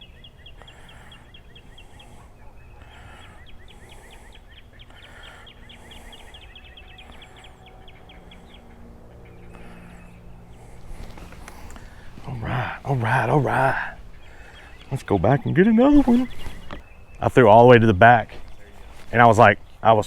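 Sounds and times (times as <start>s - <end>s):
bird trilling: 0.0s - 17.2s
low steady hum: 0.0s - 20.0s.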